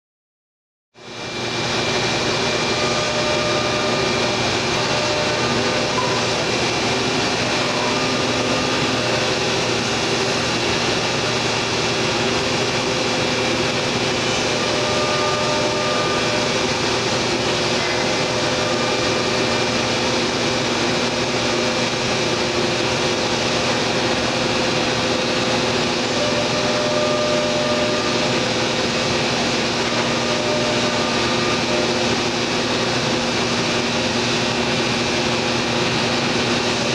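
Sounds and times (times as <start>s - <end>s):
router machine running: 1.0s - 36.9s.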